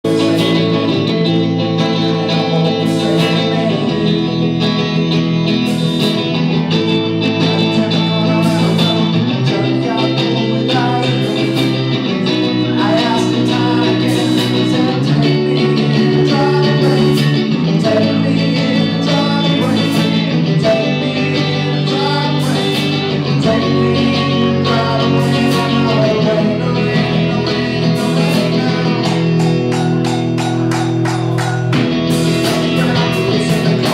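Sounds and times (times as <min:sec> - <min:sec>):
guitar-led rock music: 0:00.0 - 0:33.9.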